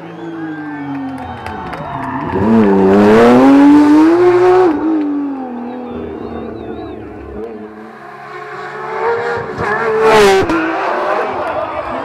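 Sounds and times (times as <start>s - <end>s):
rally car passing at speed: 1.0s - 12.0s.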